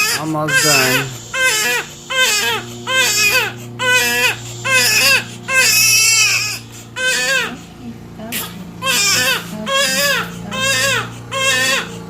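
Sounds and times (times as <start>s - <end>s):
newborn baby crying: 0.0s - 12.0s.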